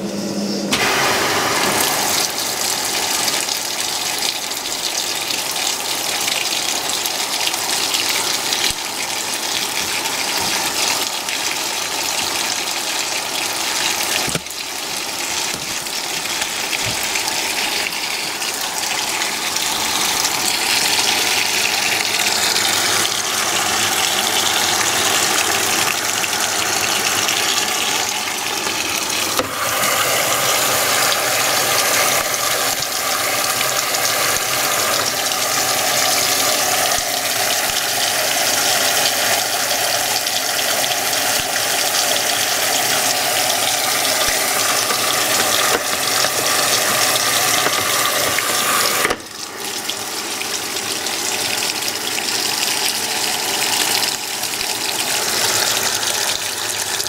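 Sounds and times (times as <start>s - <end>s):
water splashing into washing machine: 0.6s - 57.0s.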